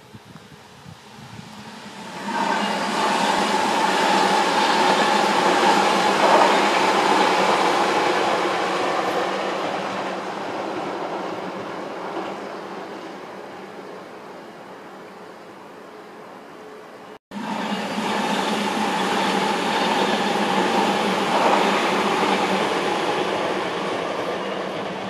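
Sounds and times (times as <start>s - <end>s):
train wheels rushing on rail: 0.7s - 14.8s, 17.3s - 25.0s.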